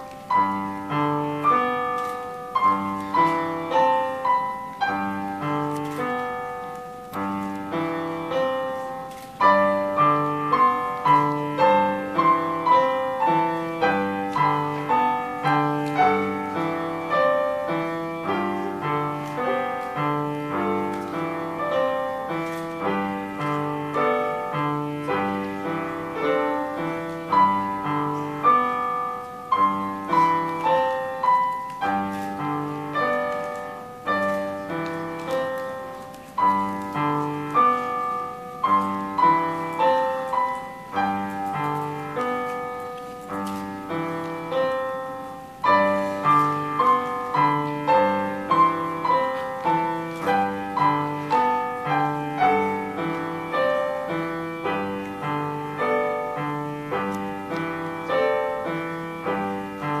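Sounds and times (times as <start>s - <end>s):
piano duet: 0.0s - 60.0s.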